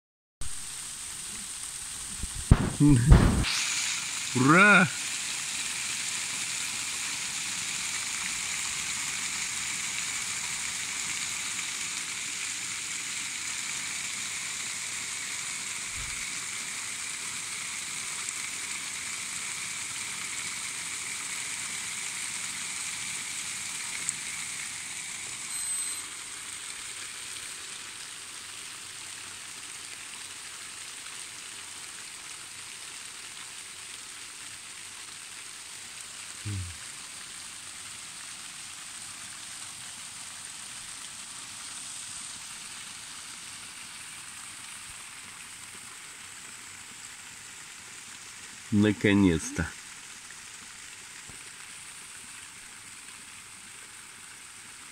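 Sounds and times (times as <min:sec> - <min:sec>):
rain on foliage and grass: 0:00.4 - 0:54.9.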